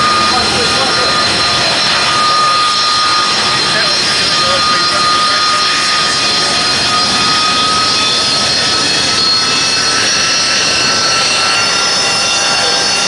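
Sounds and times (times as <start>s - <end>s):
jet engine roar with whine: 0.0s - 13.0s.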